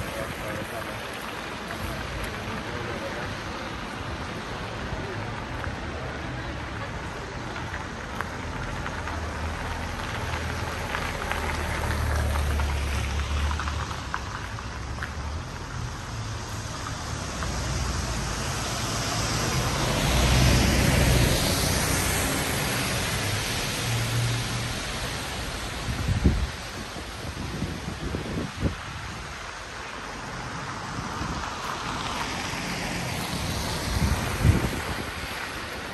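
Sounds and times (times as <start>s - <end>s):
street hiss: 0.0s - 35.9s.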